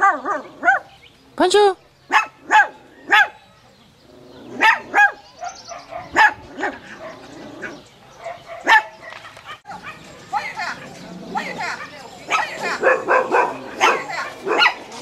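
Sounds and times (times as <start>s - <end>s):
dog barking: 0.0s - 0.9s, 2.1s - 3.4s, 4.6s - 10.8s, 11.4s - 15.0s.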